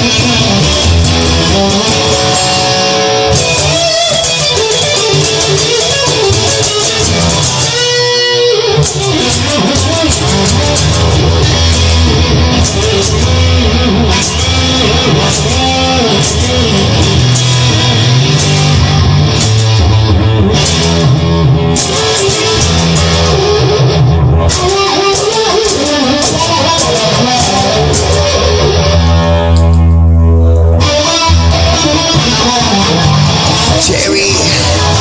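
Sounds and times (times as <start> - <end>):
rock band playing: 0.0 - 35.0.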